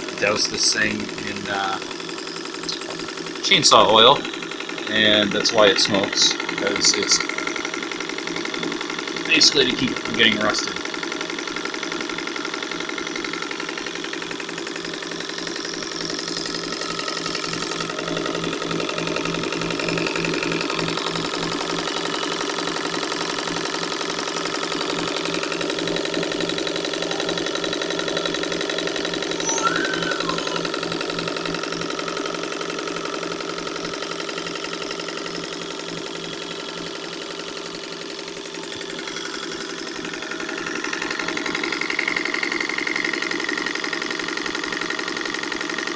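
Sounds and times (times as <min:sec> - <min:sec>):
sewing machine running: 0:00.0 - 0:45.9.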